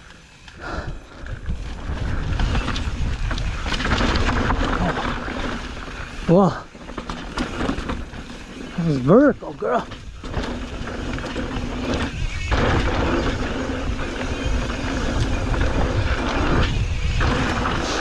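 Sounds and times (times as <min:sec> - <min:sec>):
bike tyres on dirt: 0:00.0 - 0:18.0
wind buffeting microphone: 0:00.6 - 0:18.0.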